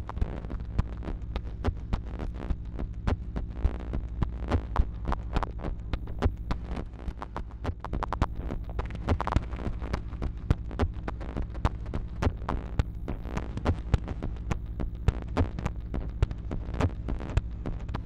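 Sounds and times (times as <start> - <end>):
rapid electronic clicks and ticks: 0.0 - 18.0.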